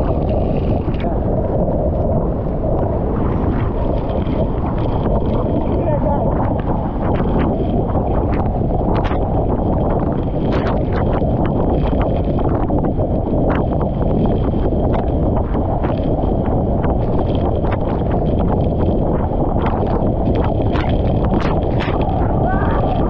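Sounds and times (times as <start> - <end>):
droplets ticking on microphone: 0.0 - 23.0.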